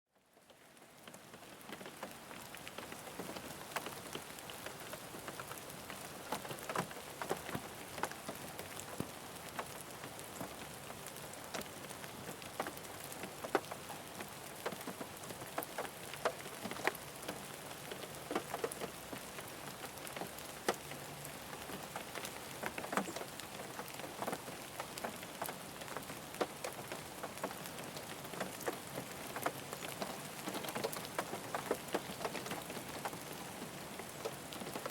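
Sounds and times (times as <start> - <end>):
rain on a car roof: 0.2 - 34.9.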